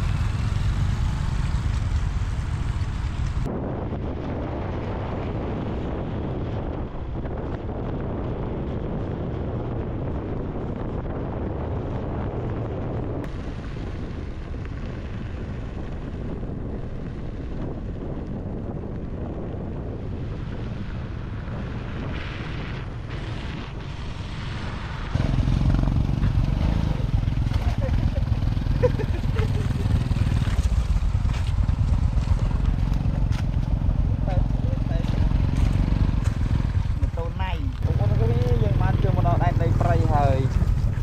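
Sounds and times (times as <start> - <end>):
moving vehicle rumble: 0.0 - 41.0
wind buffeting microphone: 0.0 - 41.0.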